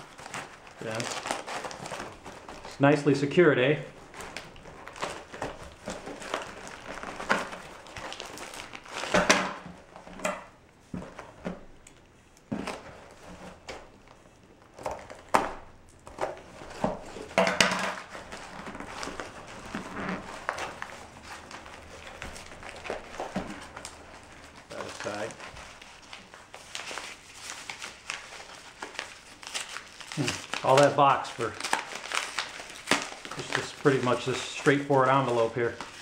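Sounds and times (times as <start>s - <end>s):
packaging rustling and crinkling: 0.0s - 36.0s.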